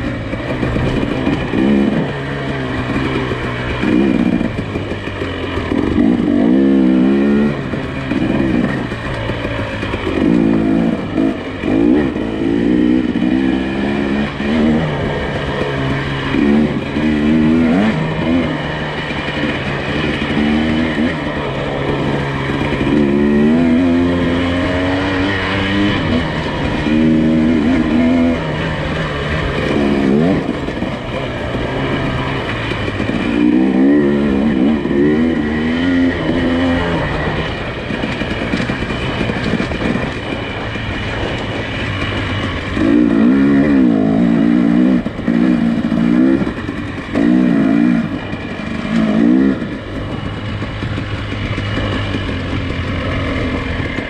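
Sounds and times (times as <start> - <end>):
car engine revving off-road: 0.0 - 54.0.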